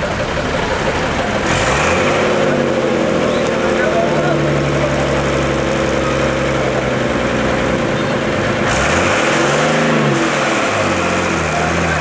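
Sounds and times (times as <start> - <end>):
lorry diesel engine revving: 0.0 - 12.0.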